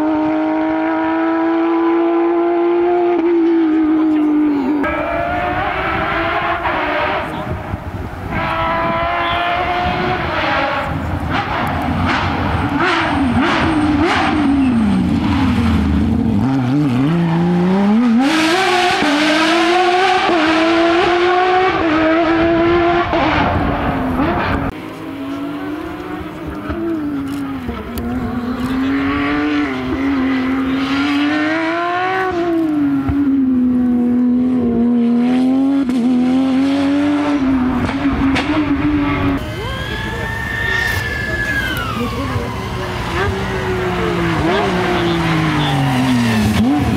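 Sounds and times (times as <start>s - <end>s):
rally car engine revving: 0.0s - 39.7s, 42.0s - 46.9s.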